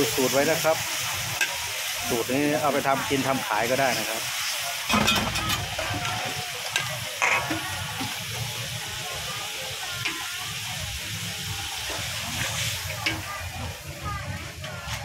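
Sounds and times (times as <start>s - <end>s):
pork sizzling in hot oil: 0.0s - 15.0s.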